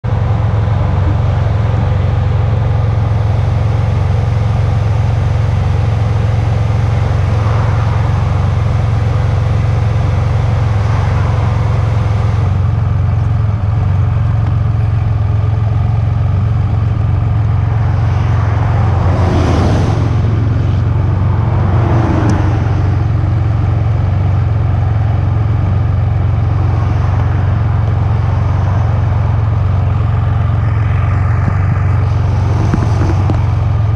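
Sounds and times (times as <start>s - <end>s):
highway traffic rumble: 0.0s - 33.9s
vehicles passing close by: 0.0s - 33.9s.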